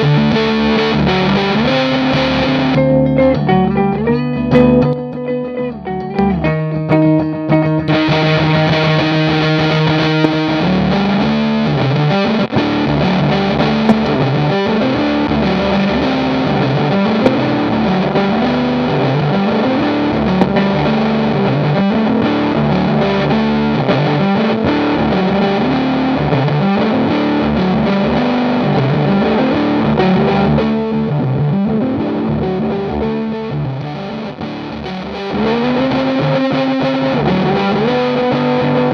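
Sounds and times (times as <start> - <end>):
fuzzed electric guitar riff: 0.0 - 38.9.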